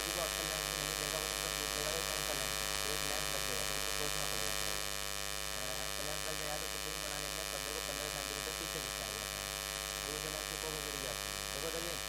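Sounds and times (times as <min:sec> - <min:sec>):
buzzy electrical hum: 0:00.0 - 0:12.0.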